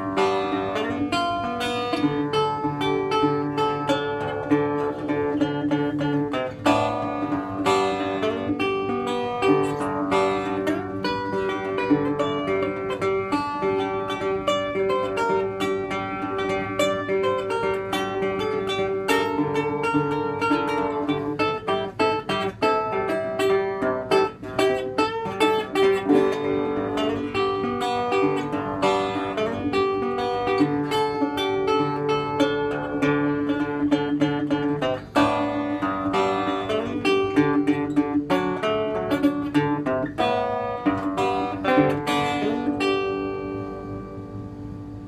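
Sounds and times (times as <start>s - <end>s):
fingerpicked resonator guitar: 0.0s - 45.0s.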